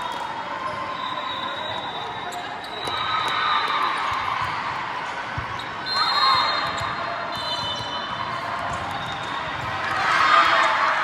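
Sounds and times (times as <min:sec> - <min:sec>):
voices echoing in hall: 0:00.0 - 0:11.0.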